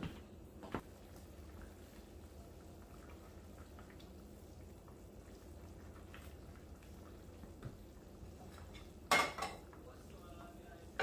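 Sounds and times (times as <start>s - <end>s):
low steady hum: 0.0s - 11.0s
stew sloshing while stirred: 0.8s - 10.1s.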